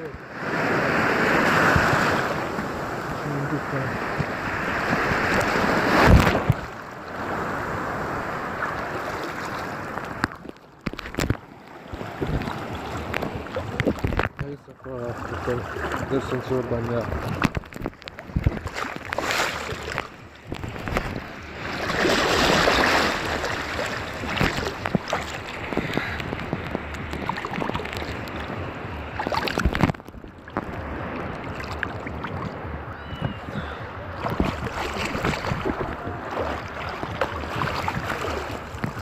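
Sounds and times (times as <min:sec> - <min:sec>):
wind noise: 0:00.0 - 0:14.5, 0:15.8 - 0:39.0
sea water sloshing and splashing: 0:00.0 - 0:39.0.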